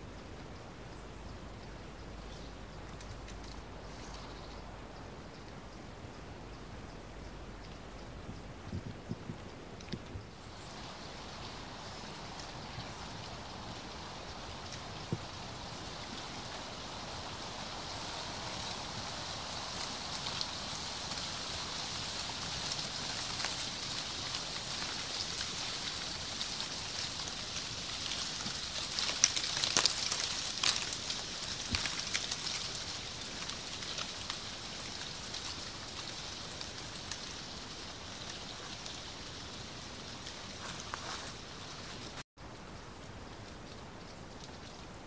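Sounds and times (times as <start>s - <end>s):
dry leaves pattering: 0.0s - 5.8s, 9.3s - 45.0s
leaves crackling: 0.0s - 45.0s.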